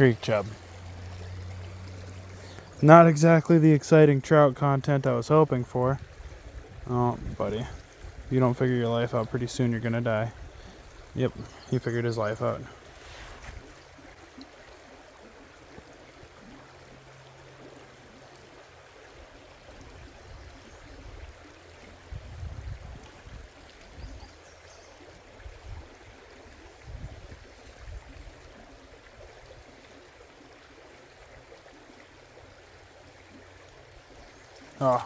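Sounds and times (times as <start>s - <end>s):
creek water flowing: 0.0s - 35.0s.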